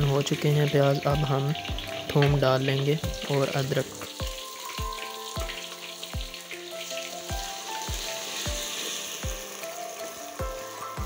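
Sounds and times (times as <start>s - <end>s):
background music with steady beat: 0.0s - 11.0s
onions sizzling in a pot: 0.0s - 11.0s.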